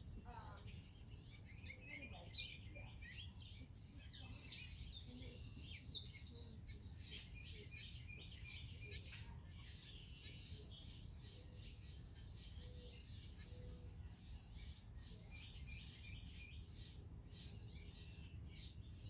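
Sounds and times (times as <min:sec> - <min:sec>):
blackbirds chirping and calling: 0:00.0 - 0:19.0.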